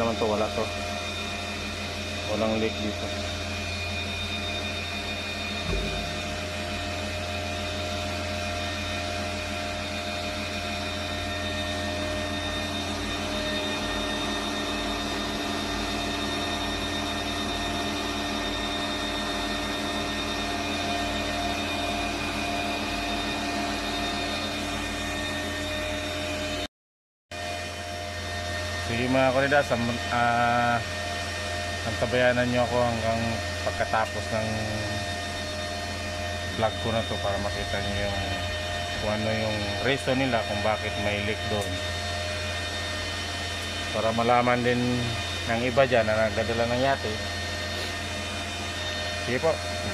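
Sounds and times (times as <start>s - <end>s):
machinery droning: 0.0s - 26.6s, 27.6s - 49.9s.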